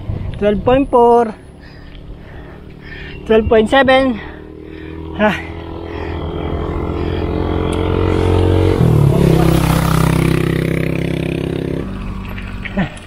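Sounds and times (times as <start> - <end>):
motorcycle engine revving: 1.0 - 13.0.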